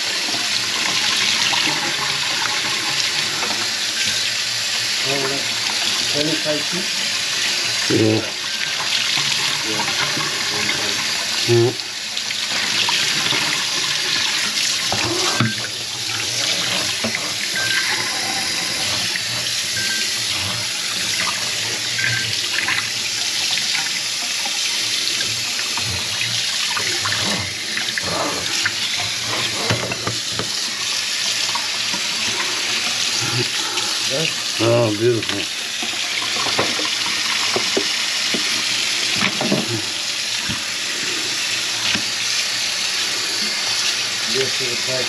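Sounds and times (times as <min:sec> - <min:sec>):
water running from faucet into sink: 0:00.0 - 0:45.0.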